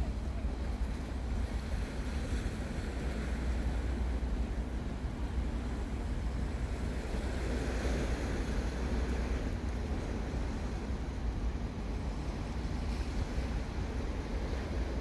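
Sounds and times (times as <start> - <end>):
sea waves on rocky shore: 0.0 - 15.0.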